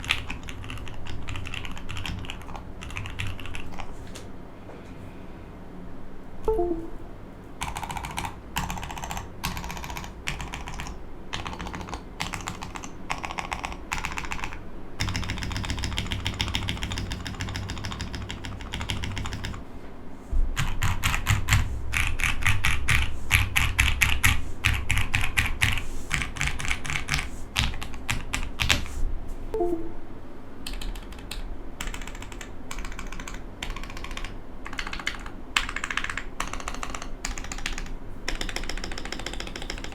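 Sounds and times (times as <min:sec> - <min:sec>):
mechanical keyboard typing: 0:00.0 - 0:03.9, 0:07.6 - 0:19.6, 0:20.6 - 0:28.8, 0:30.6 - 0:39.9.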